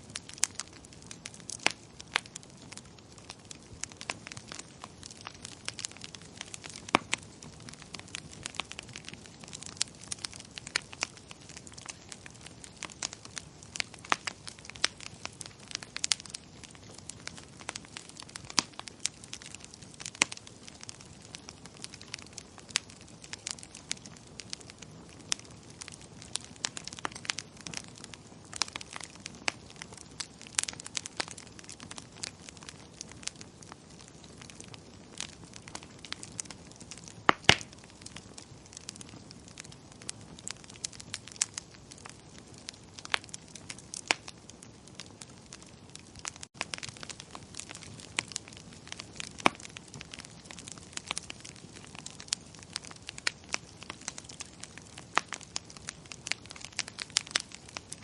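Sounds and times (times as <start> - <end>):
soft steady hiss: 0.0 - 58.0
wood fire popping and snapping: 0.0 - 58.0.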